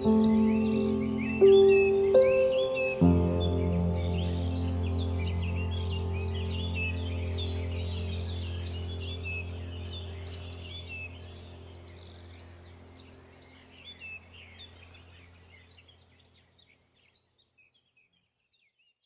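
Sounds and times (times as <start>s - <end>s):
low steady hum: 0.0s - 16.4s
small birds chirping and twittering: 0.0s - 19.0s.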